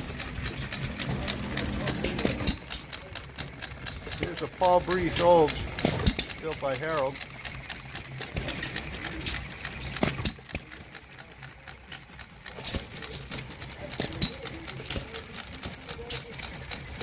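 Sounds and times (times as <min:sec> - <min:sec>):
model engine clicking and ticking: 0:00.0 - 0:17.0.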